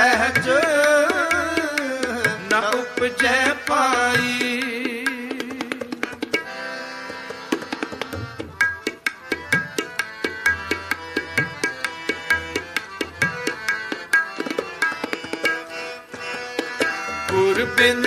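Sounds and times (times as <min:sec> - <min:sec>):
harmonium held notes: 0:00.0 - 0:18.0
tabla rhythm: 0:00.0 - 0:18.0.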